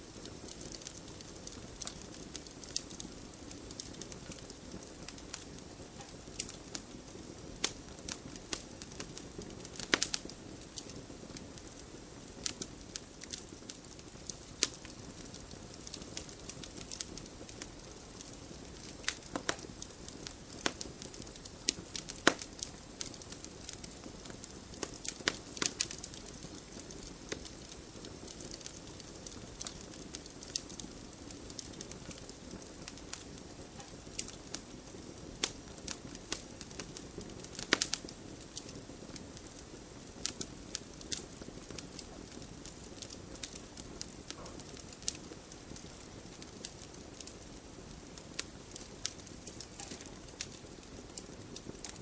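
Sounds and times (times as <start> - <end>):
fire hissing: 0.0 - 52.0
wood fire crackling: 0.0 - 52.0.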